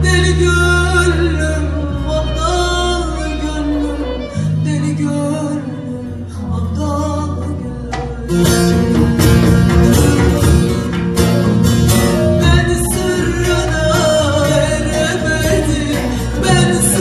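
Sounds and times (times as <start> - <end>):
folk music with plucked strings: 0.0 - 17.0.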